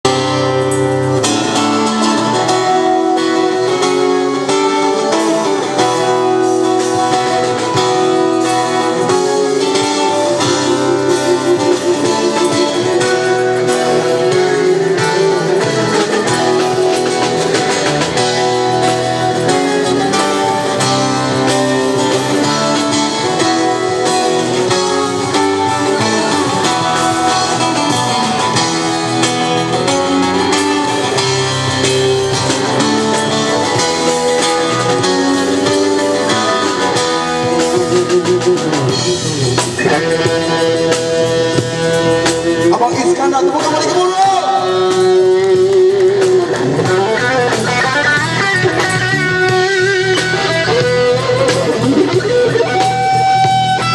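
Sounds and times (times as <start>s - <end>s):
guitar playing melodic lead: 0.0s - 53.9s.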